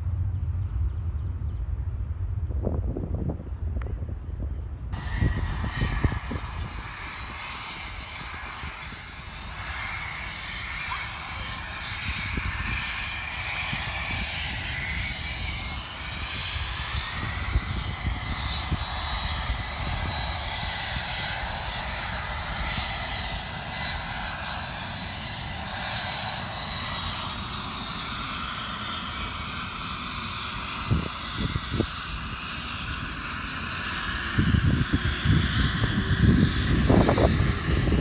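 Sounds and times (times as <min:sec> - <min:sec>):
jet engines whining: 0:00.0 - 0:38.0.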